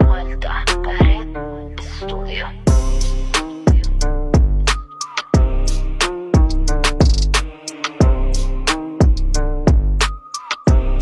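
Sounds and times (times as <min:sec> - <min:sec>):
music with beat and deep bass: 0:00.0 - 0:02.0, 0:02.7 - 0:11.0.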